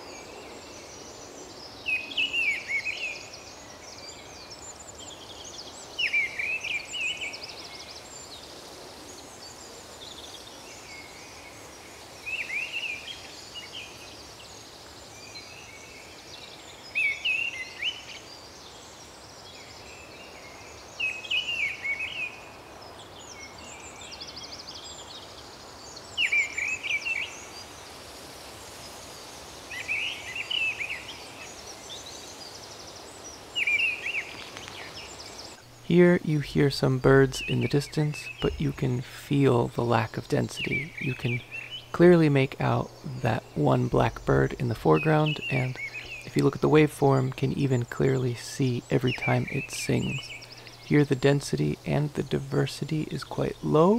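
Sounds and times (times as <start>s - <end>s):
blackbird singing: 0.0s - 8.5s, 15.2s - 27.7s, 29.7s - 53.9s
faint distant bird calls: 0.0s - 53.9s
steady background hiss: 0.0s - 53.9s.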